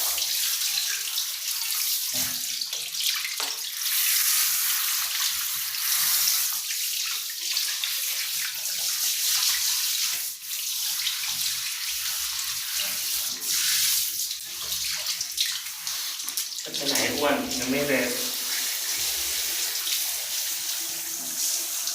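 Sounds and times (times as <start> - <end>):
water splashing from tap: 0.0 - 21.9.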